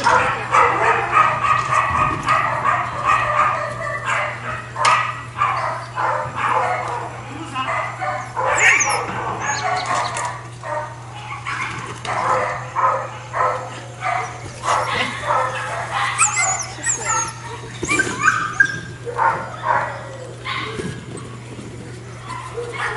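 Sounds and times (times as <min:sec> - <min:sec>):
dog barking: 0:00.0 - 0:17.3, 0:19.0 - 0:20.8, 0:22.3 - 0:22.9.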